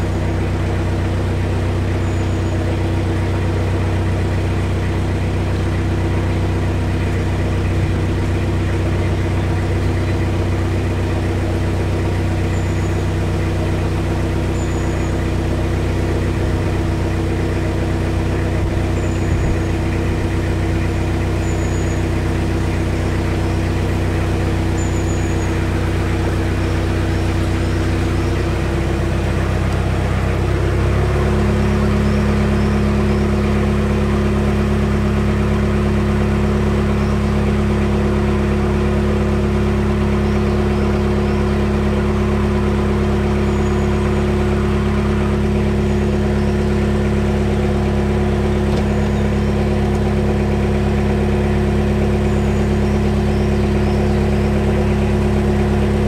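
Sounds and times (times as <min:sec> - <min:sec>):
diesel boat engine running: 0:00.0 - 0:56.0.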